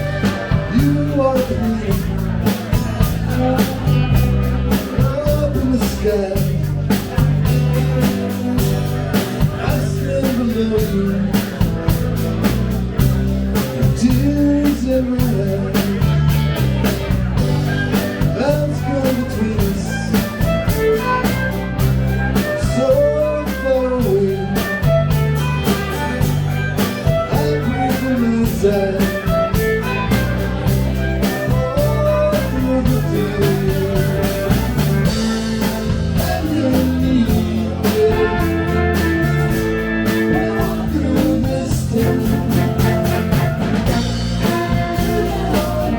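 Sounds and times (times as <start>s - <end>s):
bass guitar: 0.0s - 45.9s
drum kit beat: 0.0s - 45.9s
electric guitar with bent notes: 0.0s - 45.9s.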